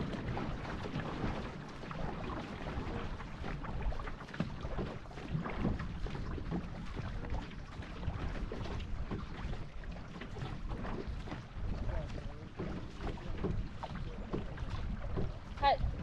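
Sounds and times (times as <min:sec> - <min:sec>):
paddle strokes: 0:00.0 - 0:16.0
water rushing along canoe hull: 0:00.0 - 0:16.0
wind rumble on microphone: 0:00.0 - 0:16.0.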